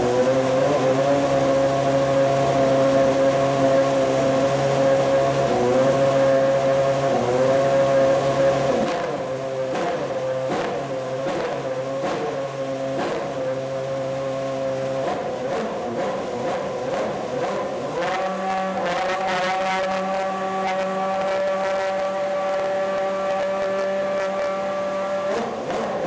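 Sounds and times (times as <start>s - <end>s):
racing car engine idling: 0.6s - 26.0s.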